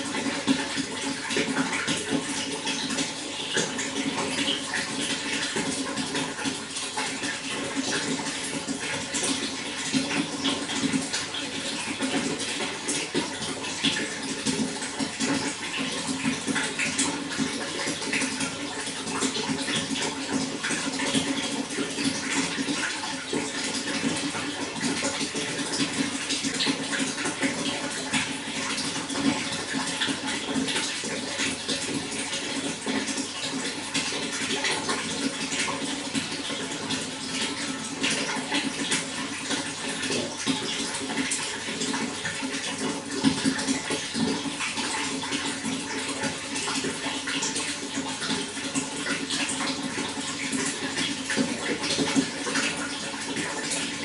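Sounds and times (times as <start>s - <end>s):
running water splashing: 0.0s - 54.0s.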